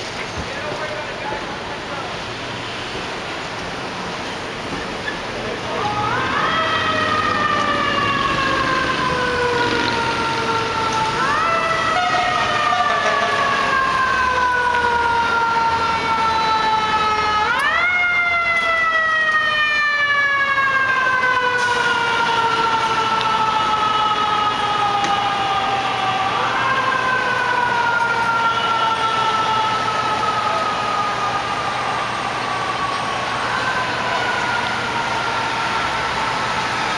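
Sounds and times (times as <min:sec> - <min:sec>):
emergency vehicle siren wailing: 0:00.0 - 0:36.9.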